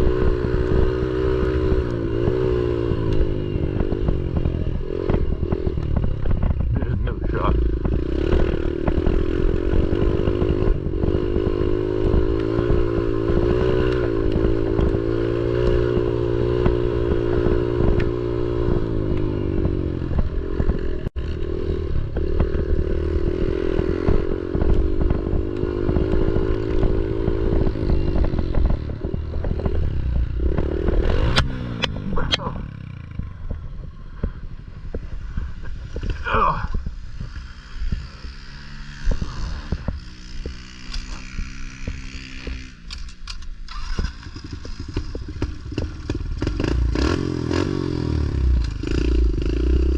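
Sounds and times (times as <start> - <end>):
motorcycle clatter: 0.0 - 49.9
motorcycle engine under throttle: 0.0 - 49.9.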